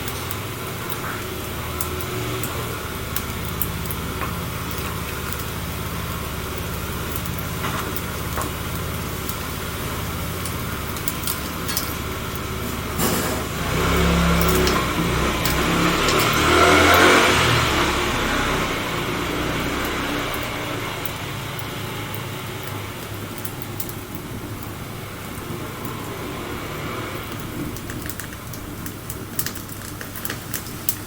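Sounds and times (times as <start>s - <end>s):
vehicle engine humming: 0.0s - 31.0s
wood fire crackling: 0.0s - 31.0s.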